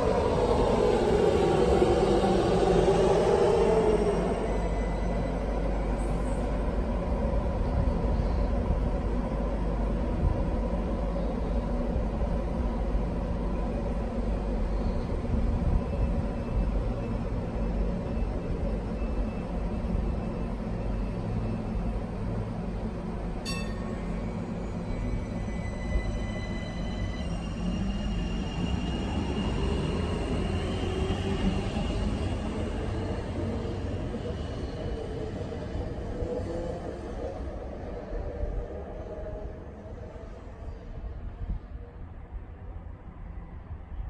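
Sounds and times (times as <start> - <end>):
tram rumble and hum: 0.0 - 44.0.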